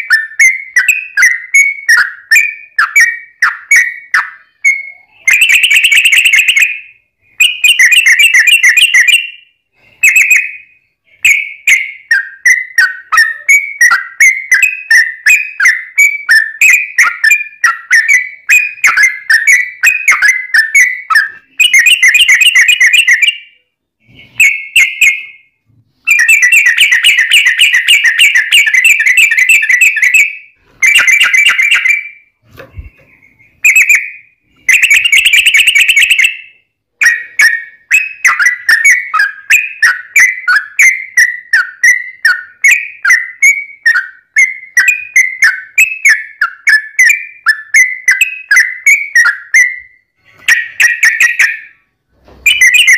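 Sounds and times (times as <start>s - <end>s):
bulbul singing: 0.0s - 51.8s.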